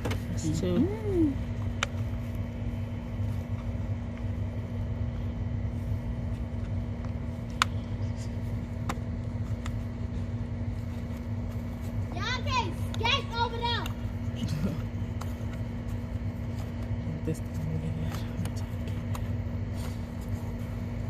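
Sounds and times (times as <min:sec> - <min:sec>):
constant hum: 0:00.0 - 0:21.0.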